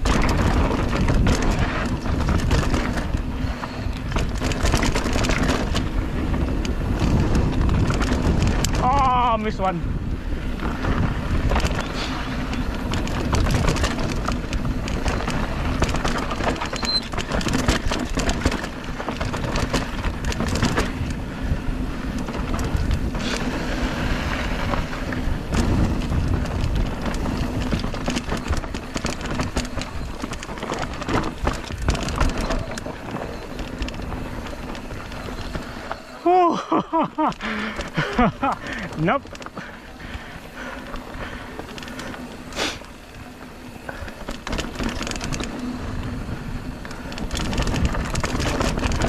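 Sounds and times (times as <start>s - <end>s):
bike clicks and rattles: 0.0s - 49.0s
bike tyres crunching over dirt: 0.0s - 49.0s.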